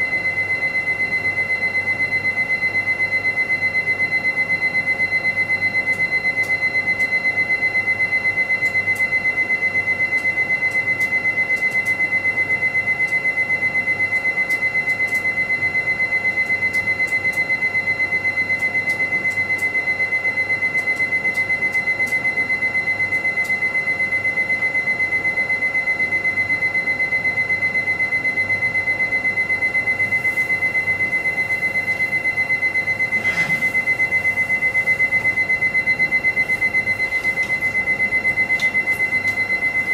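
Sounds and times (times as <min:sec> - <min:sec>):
electronic alarm beeping: 0:00.0 - 0:39.9.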